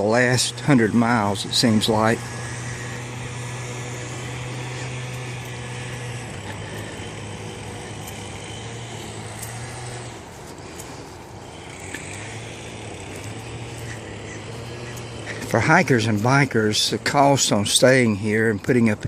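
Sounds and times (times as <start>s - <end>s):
low engine hum: 0.0s - 19.0s
outdoor background noise: 0.0s - 19.0s.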